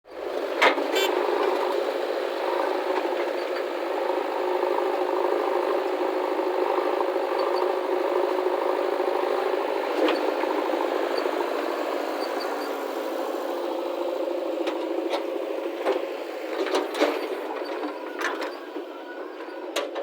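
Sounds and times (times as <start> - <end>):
diesel machinery rattling: 0.1 - 20.0.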